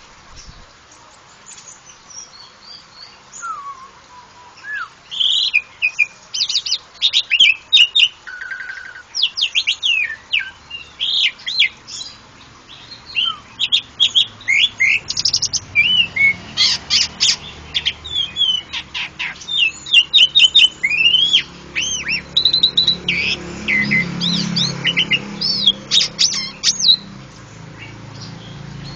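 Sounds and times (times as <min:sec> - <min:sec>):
starling singing varied song: 0:01.4 - 0:28.9.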